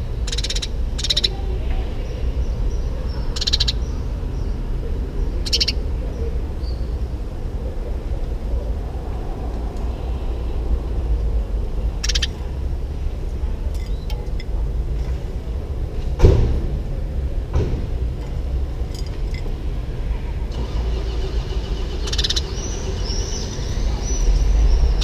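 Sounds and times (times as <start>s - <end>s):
street traffic rumble: 0.0s - 25.0s.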